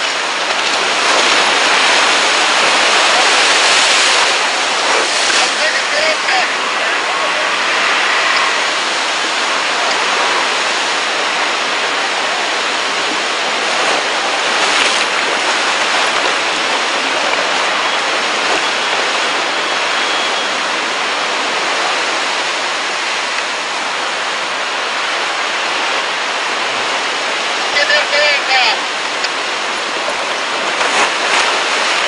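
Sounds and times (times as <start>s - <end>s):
waves washing against hull: 0.0s - 32.0s.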